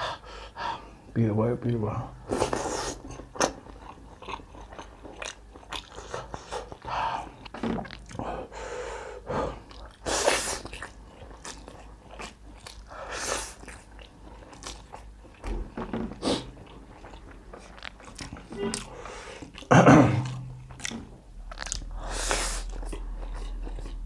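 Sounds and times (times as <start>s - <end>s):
wet chewing: 2.4s - 8.3s, 9.6s - 15.5s, 16.1s - 24.0s.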